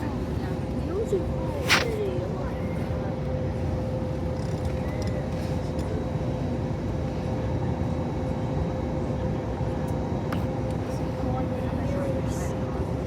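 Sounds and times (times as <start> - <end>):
engine and airflow rumble: 0.0 - 13.0.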